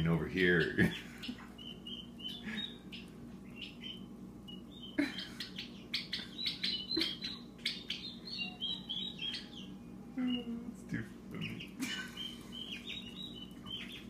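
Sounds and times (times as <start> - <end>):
turkey poults peeping: 0.3 - 10.6, 11.4 - 14.0.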